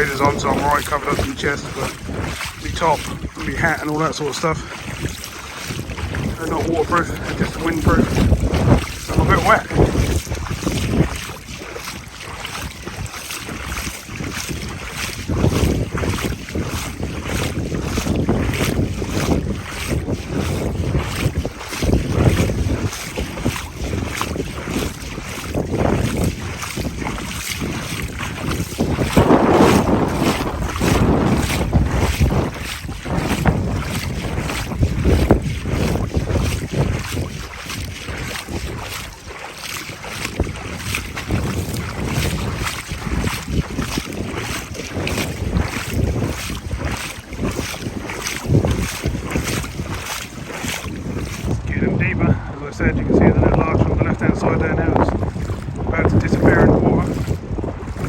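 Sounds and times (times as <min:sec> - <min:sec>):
waders splashing in water: 0:00.0 - 0:51.8, 0:54.1 - 0:58.0
gusting wind on microphone: 0:00.0 - 0:58.0.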